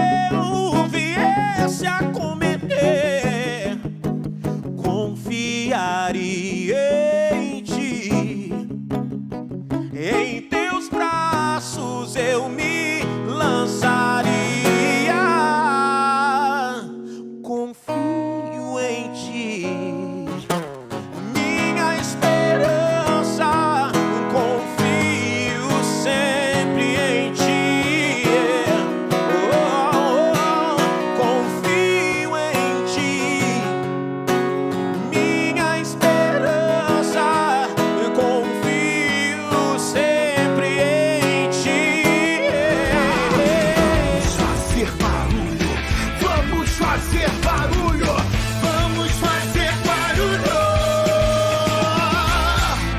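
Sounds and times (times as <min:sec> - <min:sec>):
strummed acoustic guitar: 0:00.0 - 0:52.9.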